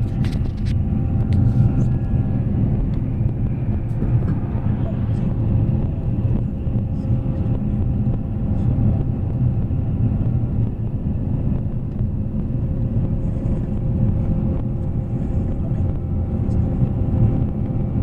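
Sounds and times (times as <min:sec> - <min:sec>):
diesel engine low rumble: 0:00.0 - 0:18.0.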